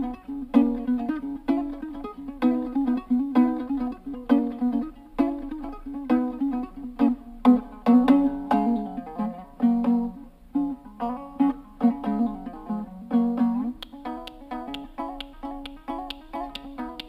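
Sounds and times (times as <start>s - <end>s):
strummed lute melody: 0.0s - 17.0s.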